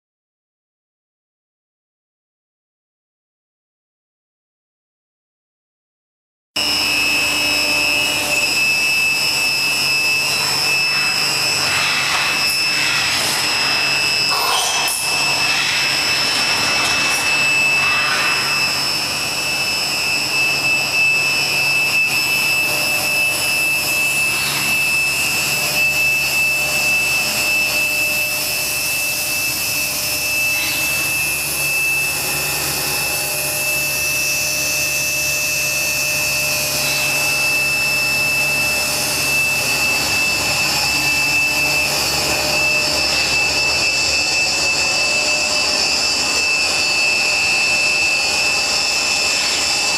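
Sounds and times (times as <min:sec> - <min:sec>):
machining centre whining: 0:06.6 - 0:49.9.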